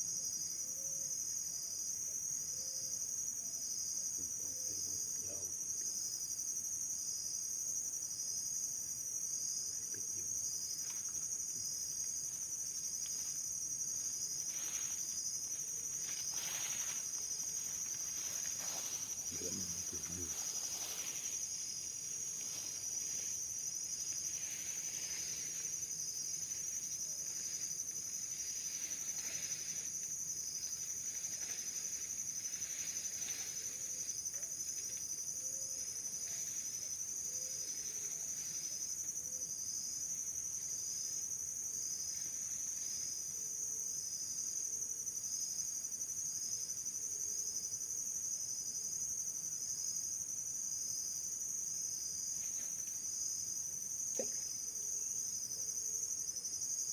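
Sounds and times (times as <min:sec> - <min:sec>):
insect chirping: 0:00.0 - 0:56.9
insects trilling: 0:00.0 - 0:56.9.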